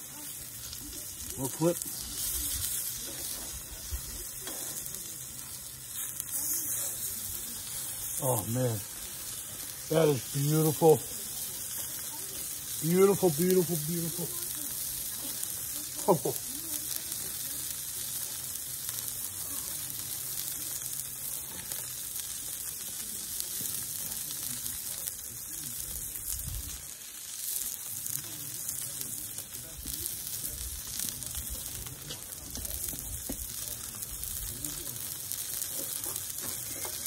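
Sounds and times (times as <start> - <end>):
steak sizzling on grill: 0.0 - 37.0.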